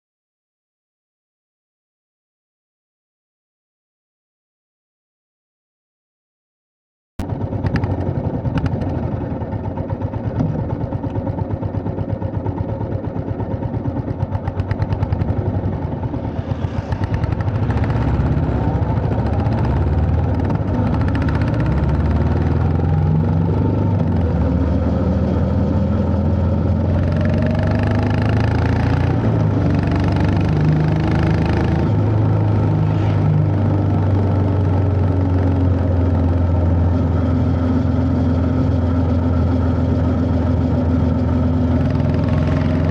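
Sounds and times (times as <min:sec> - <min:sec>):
motorcycle engine revving: 0:07.2 - 0:42.9.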